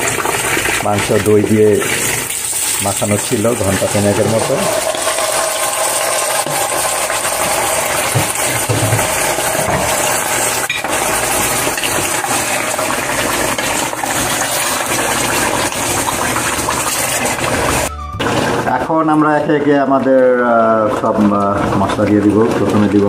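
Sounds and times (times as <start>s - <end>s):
meat sizzling in hot oil: 0.0s - 18.6s.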